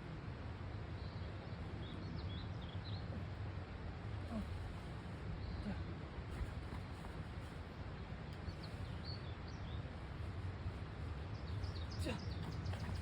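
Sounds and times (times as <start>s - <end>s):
small birds chirping: 0.6s - 3.4s, 4.3s - 13.0s.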